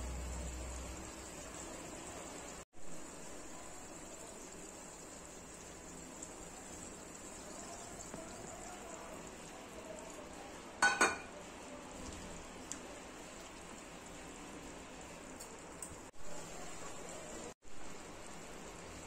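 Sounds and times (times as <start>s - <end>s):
curry simmering in a pan: 0.0s - 19.0s.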